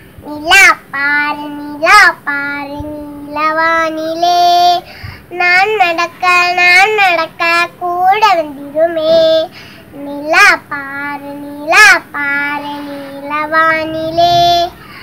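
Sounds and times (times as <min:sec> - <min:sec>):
girl singing solo: 0:00.2 - 0:15.0.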